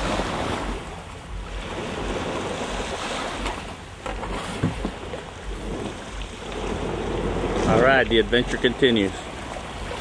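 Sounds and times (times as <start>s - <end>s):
river water: 0.0s - 10.0s.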